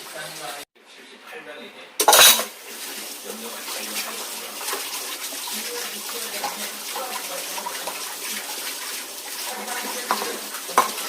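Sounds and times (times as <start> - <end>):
running tap water hissing: 0.0 - 0.7, 2.0 - 11.0.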